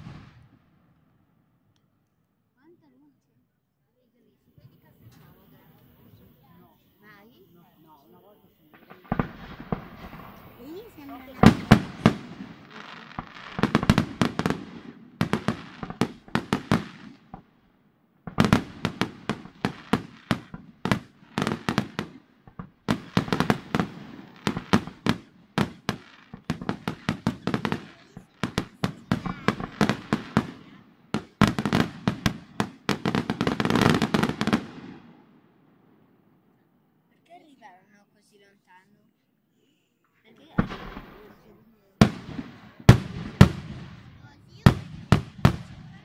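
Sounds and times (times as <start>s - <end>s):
fireworks bursting bangs: 0.0s - 1.0s, 4.5s - 36.3s, 40.4s - 46.0s
fireworks crackling: 0.0s - 1.0s, 4.4s - 35.7s, 40.2s - 46.0s.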